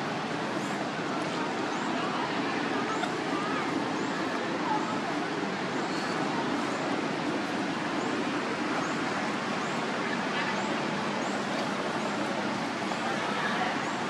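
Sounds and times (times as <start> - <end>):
distant road traffic: 0.0 - 14.0.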